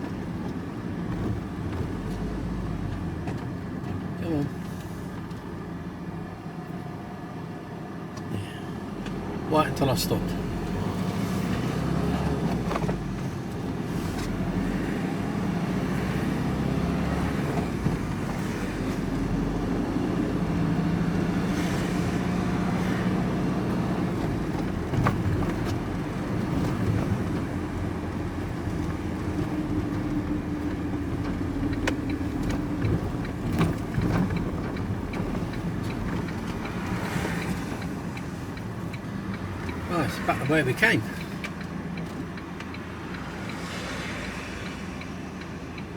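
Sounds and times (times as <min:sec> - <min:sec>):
road noise: 0:00.0 - 0:45.9
vehicle engine: 0:00.0 - 0:45.9.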